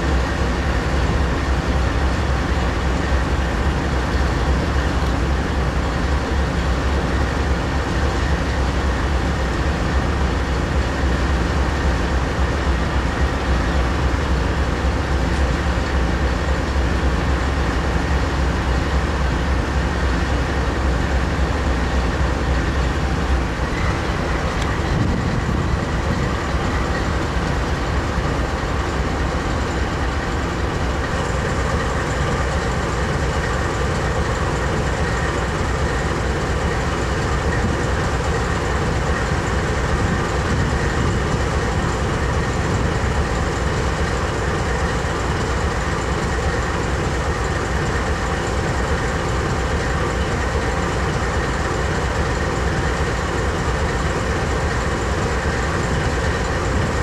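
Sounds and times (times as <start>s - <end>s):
diesel locomotive engine rumble: 0.0s - 57.0s
rail noise: 0.0s - 57.0s.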